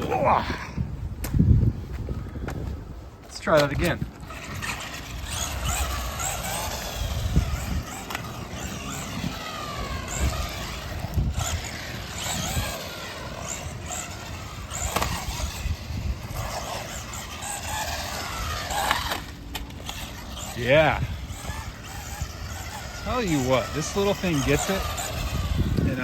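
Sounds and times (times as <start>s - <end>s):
tyres rumbling: 0.0s - 26.0s
wind: 0.0s - 26.0s
electric toy car motor whine: 3.4s - 26.0s.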